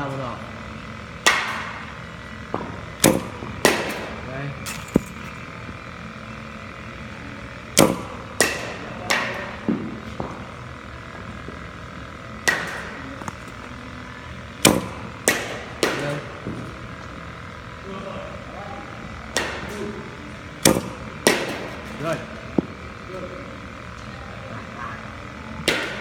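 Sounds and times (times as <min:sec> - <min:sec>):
bat hitting balls: 0:00.7 - 0:17.8, 0:18.8 - 0:24.0, 0:25.5 - 0:26.0
balls striking the cage: 0:00.9 - 0:06.8, 0:07.6 - 0:17.7, 0:19.2 - 0:24.0, 0:25.6 - 0:26.0.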